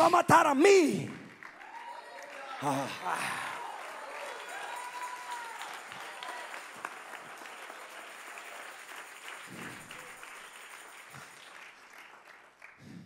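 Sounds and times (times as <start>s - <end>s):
congregation applauding: 0.0s - 13.0s.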